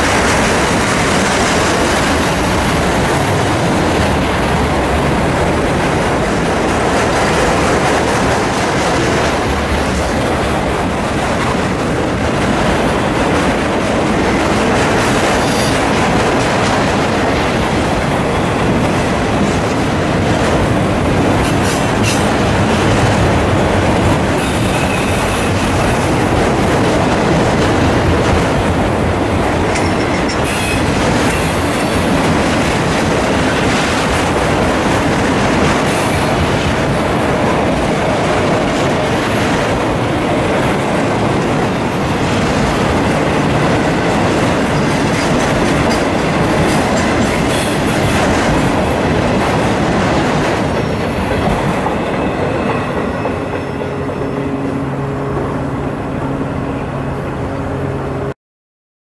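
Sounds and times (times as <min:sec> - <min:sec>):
clickety-clack over rail joints: 0:00.0 - 0:55.6
train wheels rumbling: 0:00.0 - 0:58.3.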